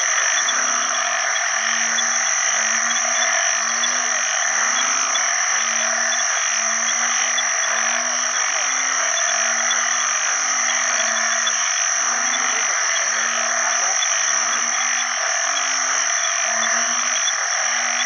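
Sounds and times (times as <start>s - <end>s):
frog chorus with high whine: 0.0s - 18.0s
frogs droning mating calls: 0.0s - 18.0s.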